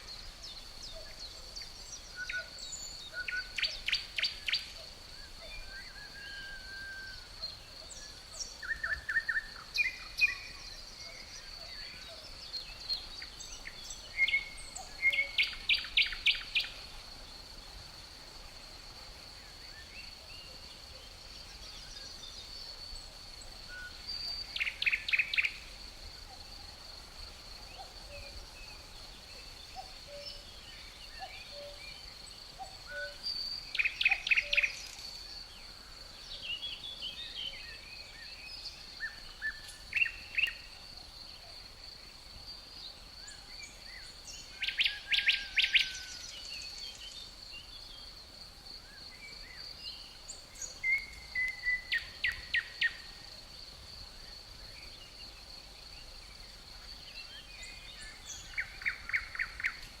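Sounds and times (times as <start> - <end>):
songbirds singing: 0.0 - 60.0.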